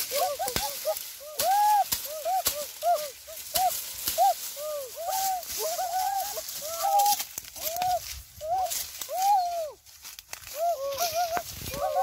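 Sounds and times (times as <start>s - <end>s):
dry leaves crackling: 0.0s - 12.0s.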